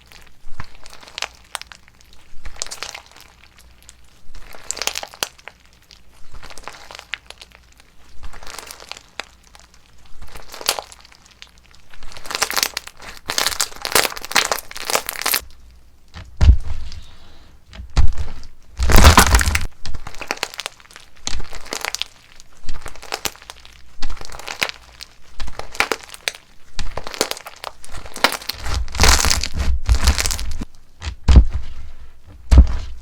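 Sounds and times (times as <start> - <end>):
crunchy slime crackling: 0.0 - 17.1, 17.7 - 33.0.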